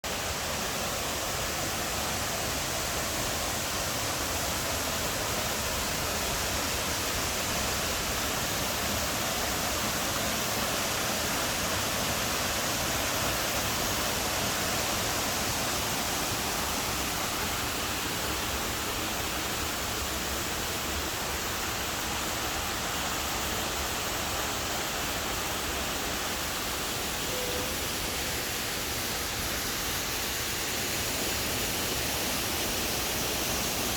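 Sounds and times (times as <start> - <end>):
waterfall cascading: 0.0 - 33.9.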